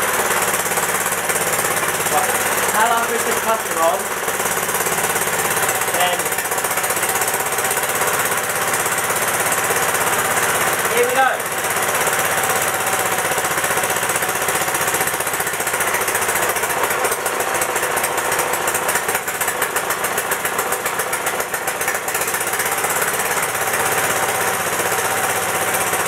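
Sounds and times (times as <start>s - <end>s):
single-cylinder petrol engine running: 0.0s - 26.0s.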